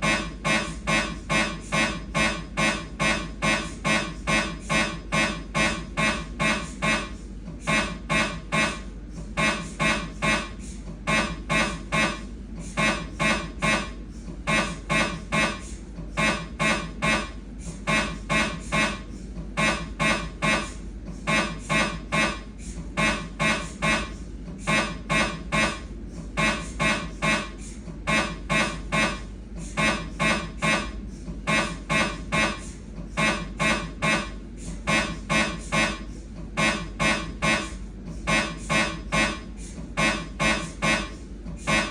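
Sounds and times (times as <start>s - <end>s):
mri scanner beeping pulses: 0.0s - 41.9s
steady low hum: 0.0s - 41.9s.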